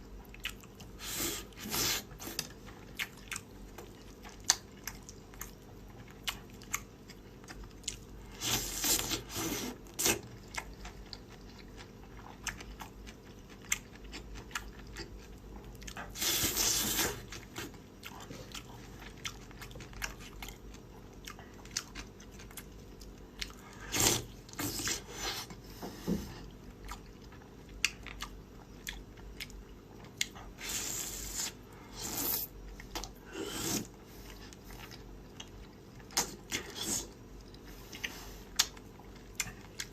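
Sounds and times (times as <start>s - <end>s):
person chewing crunchy food: 0.0s - 25.7s, 26.3s - 39.9s.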